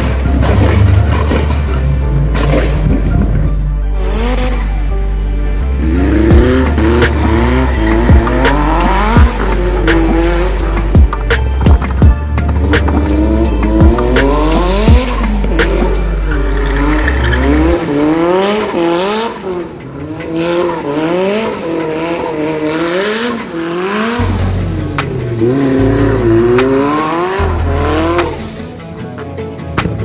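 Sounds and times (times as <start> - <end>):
car engine revving: 0.0 - 28.8.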